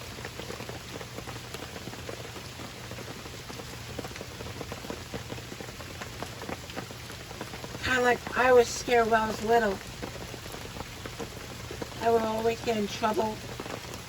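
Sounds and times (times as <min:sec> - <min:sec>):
steady rain pattering: 0:00.0 - 0:14.0.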